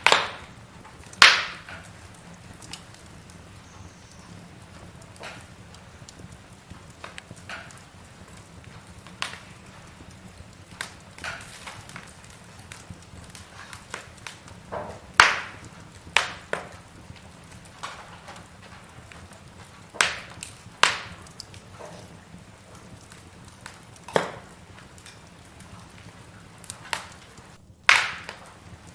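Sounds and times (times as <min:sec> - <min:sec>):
burning logs crackling: 0:00.0 - 0:28.9.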